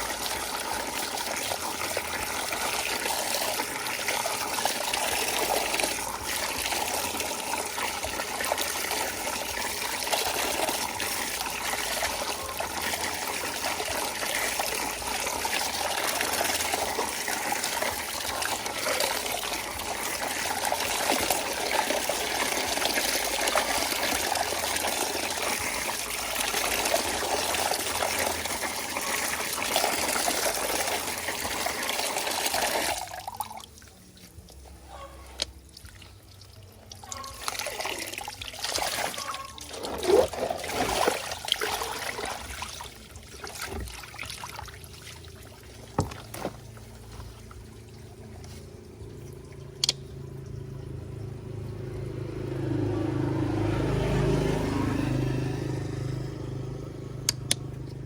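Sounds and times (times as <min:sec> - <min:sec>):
water running: 0:00.0 - 0:51.8.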